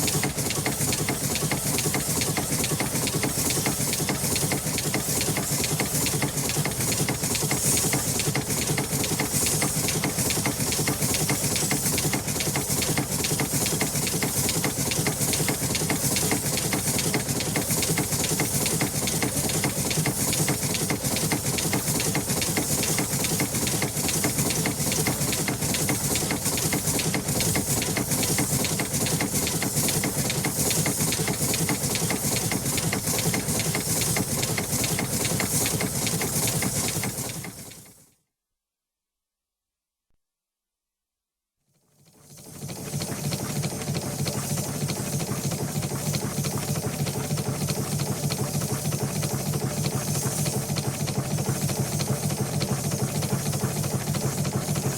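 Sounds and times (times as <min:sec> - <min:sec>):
engine running steadily: 0:00.0 - 0:37.8, 0:42.7 - 0:54.9
fast mechanical clatter: 0:00.0 - 0:38.0, 0:42.1 - 0:54.9.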